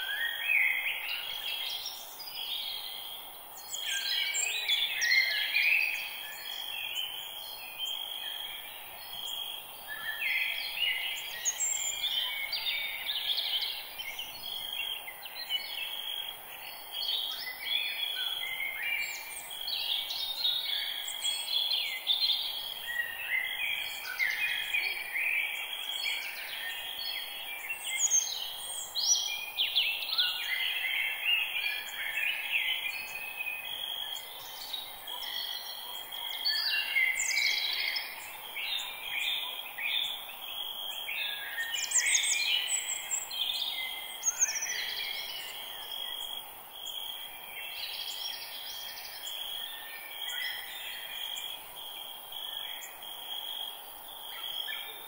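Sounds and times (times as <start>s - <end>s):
birds singing: 0.0s - 55.0s
faint high hiss: 0.0s - 55.0s.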